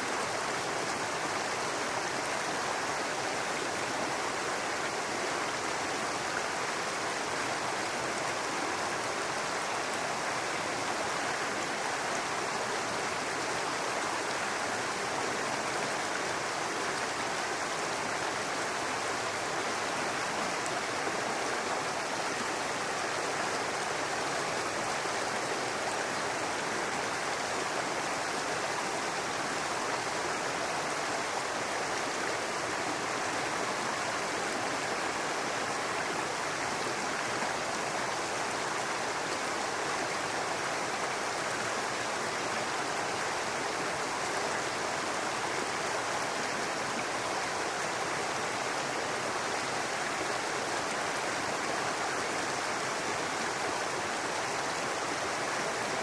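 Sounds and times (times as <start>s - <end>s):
brook babbling over rocks: 0.0s - 56.0s.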